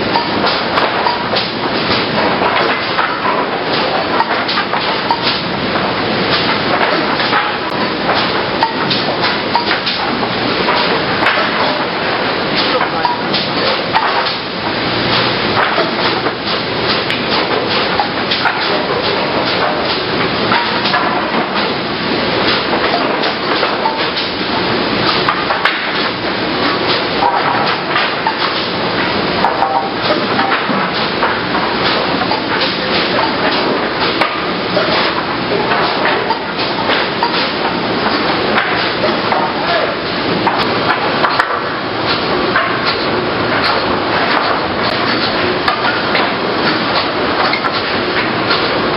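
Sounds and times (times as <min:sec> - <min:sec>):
industrial saw and conveyors running: 0:00.0 - 0:48.9.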